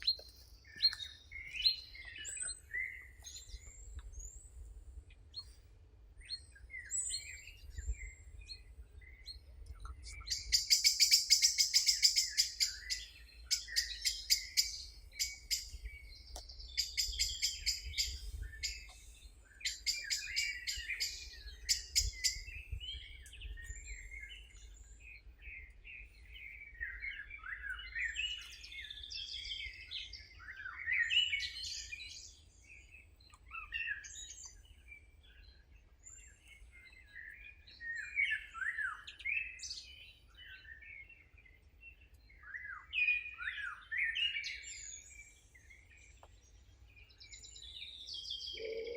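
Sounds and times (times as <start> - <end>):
birds singing trilling song: 0.0 - 48.9.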